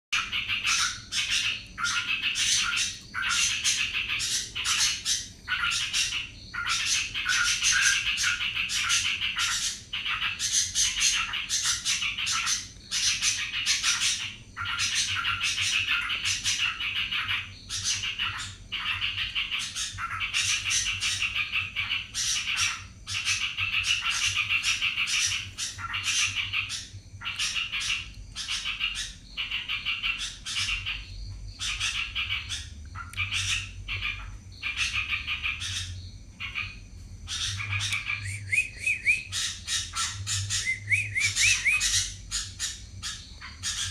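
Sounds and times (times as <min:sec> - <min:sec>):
bulbul chattering song: 0:00.2 - 0:43.9.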